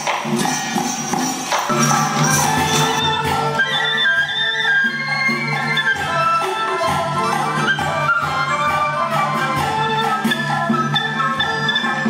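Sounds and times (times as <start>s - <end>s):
percussion strikes: 0.0s - 12.0s
sustained melodic instruments: 1.7s - 12.0s.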